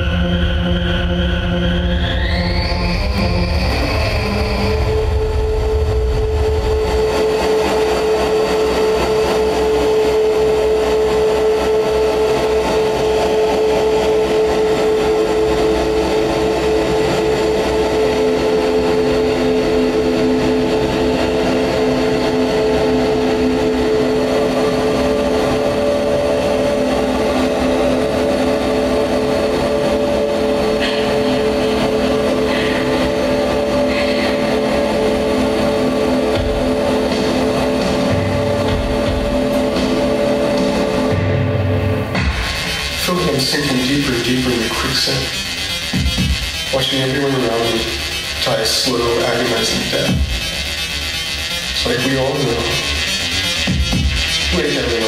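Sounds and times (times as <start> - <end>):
rumbling low end: 0.0 - 50.8
electronic noise drone: 0.0 - 55.0.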